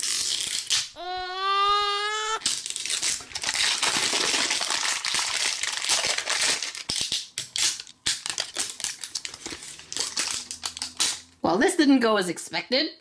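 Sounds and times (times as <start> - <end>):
plastic shrink-wrap crinkling: 0.0 - 11.3.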